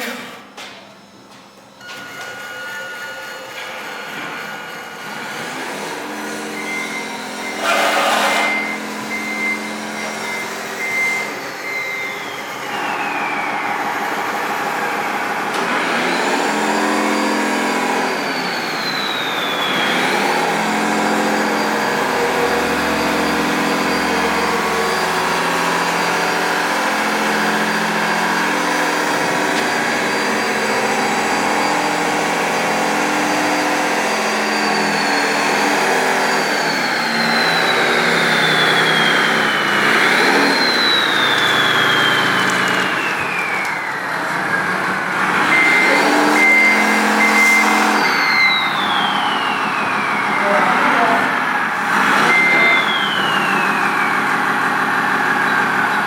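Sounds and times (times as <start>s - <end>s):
high electric motor whine: 1.0s - 56.0s
diesel engine sound effect: 3.7s - 56.0s.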